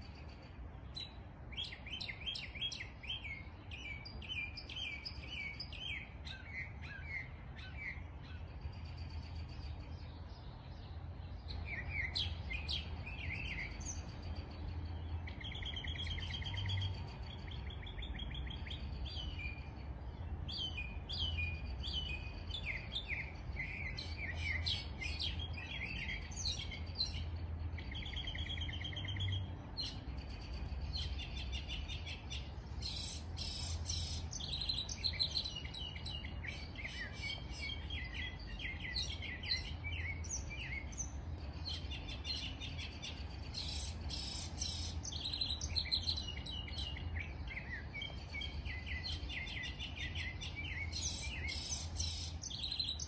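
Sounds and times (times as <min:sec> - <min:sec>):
songbirds chirping and singing: 0:00.0 - 0:53.0.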